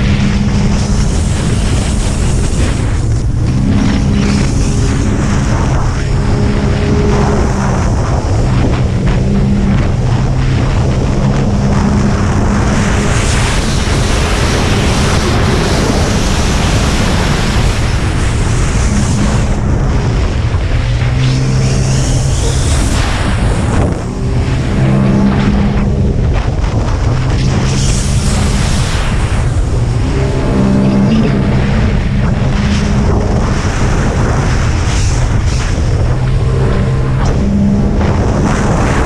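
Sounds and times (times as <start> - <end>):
jet ski engine running: 0.0 - 39.0
rushing water spray: 0.0 - 39.0
wind buffeting microphone: 0.0 - 39.0.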